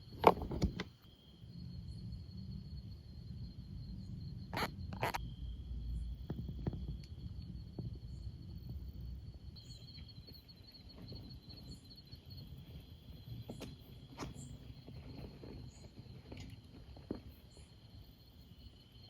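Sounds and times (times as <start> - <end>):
insects trilling: 0.0 - 19.0
fast pulsing insect trill: 1.0 - 19.0.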